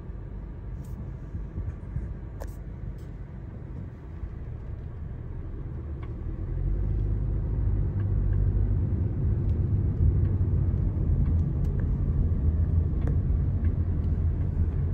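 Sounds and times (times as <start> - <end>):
car rumble from inside cabin: 0.0 - 14.9.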